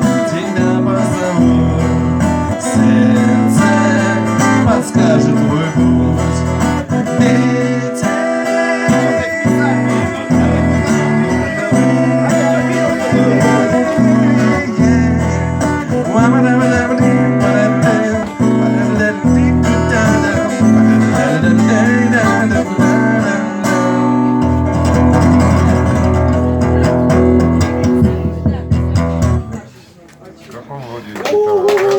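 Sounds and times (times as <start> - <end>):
strummed and plucked guitar: 0.0 - 29.7.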